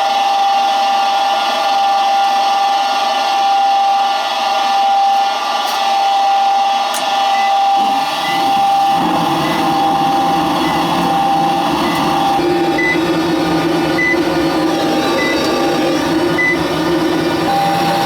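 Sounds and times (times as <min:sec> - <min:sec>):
furnace humming with high whine: 0:00.0 - 0:18.0.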